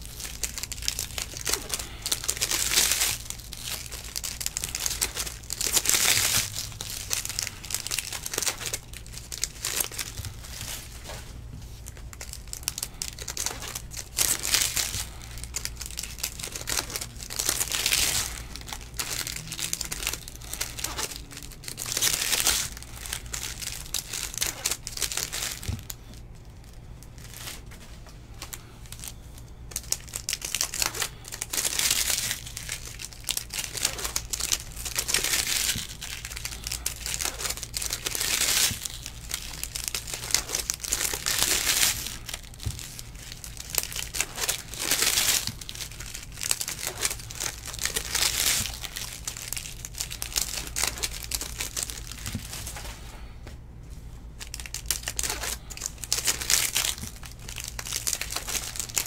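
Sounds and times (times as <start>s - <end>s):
foil wrappers crinkling and tearing: 0.0s - 53.4s, 54.3s - 59.0s.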